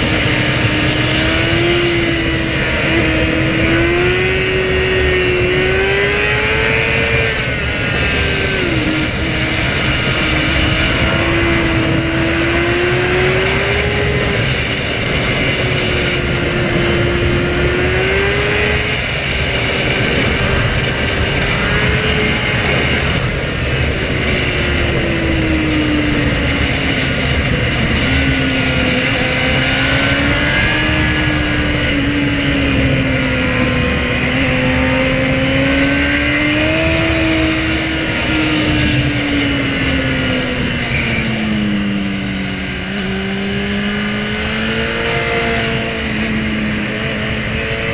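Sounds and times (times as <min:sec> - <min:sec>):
motorcycle engine running: 0:00.0 - 0:47.9
steady rush of noise: 0:00.0 - 0:47.9.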